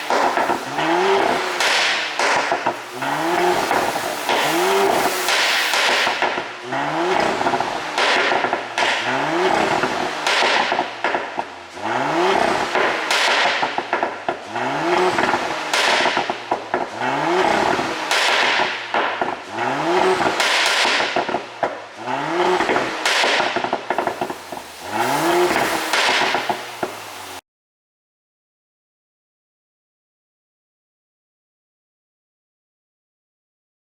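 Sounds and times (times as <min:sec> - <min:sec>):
car engine revving: 0:00.0 - 0:27.4
exhaust pops and crackles: 0:00.0 - 0:27.4.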